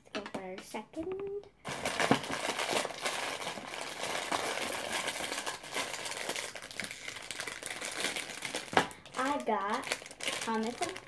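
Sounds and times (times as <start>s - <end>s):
small clicks and crackles: 0.2s - 11.0s
toy packets rustling and crinkling: 1.6s - 11.0s.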